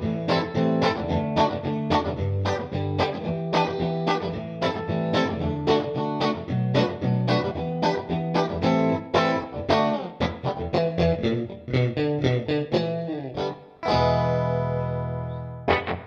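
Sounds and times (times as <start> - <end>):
electric guitar picked chords: 0.0 - 16.0.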